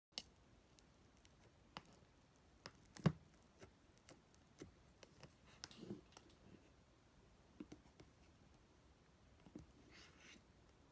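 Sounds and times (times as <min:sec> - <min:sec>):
faint clicks and taps: 0:00.1 - 0:06.7, 0:07.5 - 0:08.6, 0:09.3 - 0:10.9.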